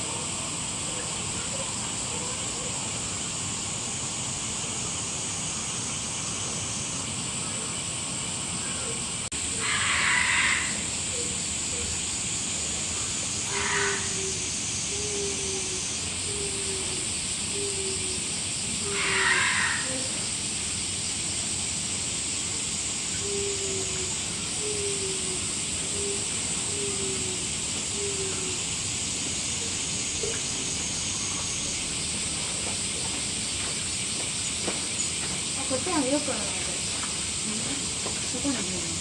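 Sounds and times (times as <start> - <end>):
cicadas droning: 0.0 - 39.0.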